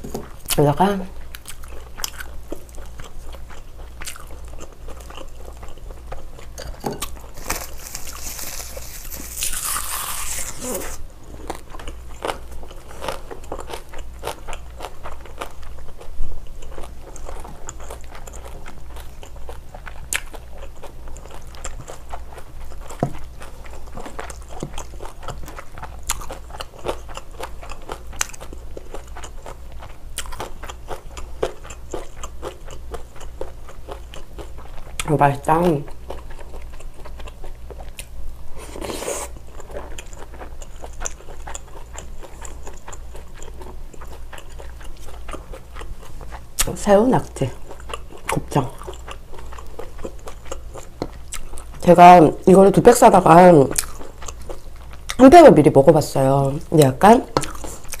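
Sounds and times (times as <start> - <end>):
chewing with crunching clicks: 1.3 - 10.1, 11.4 - 35.1, 35.9 - 38.2, 39.4 - 46.7, 47.4 - 51.8, 53.7 - 55.2, 57.3 - 58.0.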